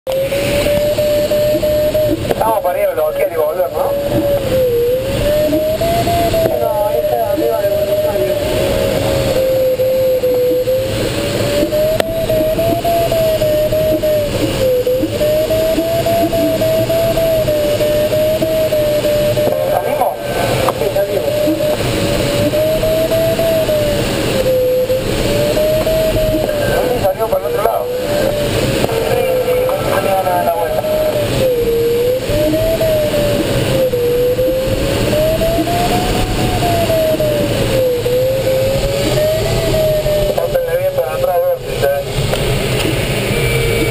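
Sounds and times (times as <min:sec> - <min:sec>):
air rushing around cockpit: 0:00.1 - 0:43.9
variometer tone changing pitch: 0:00.1 - 0:43.9.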